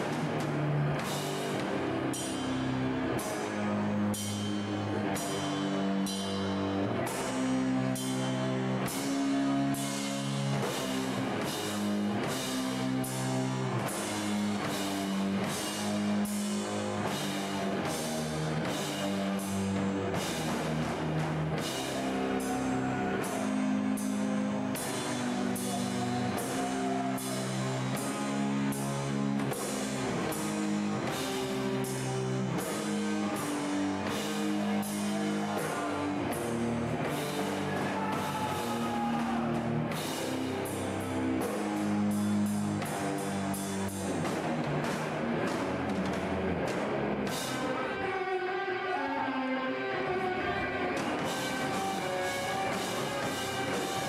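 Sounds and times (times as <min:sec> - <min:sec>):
drum kit: 0:00.0 - 0:48.3, 0:50.2 - 0:54.0
distorted electric guitars: 0:00.0 - 0:54.0.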